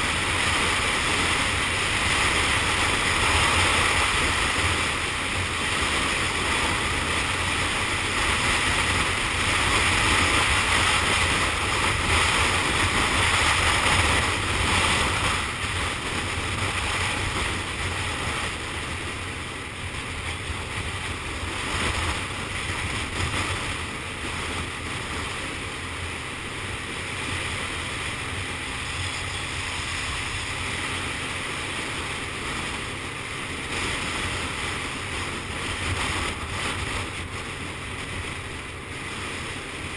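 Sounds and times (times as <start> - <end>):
scooter engine and road noise: 0.0 - 39.9
wind on microphone: 0.0 - 39.9.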